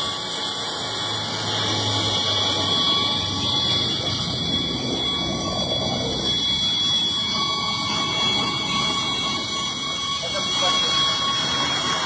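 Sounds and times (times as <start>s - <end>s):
machine running with high whine: 0.0s - 12.0s.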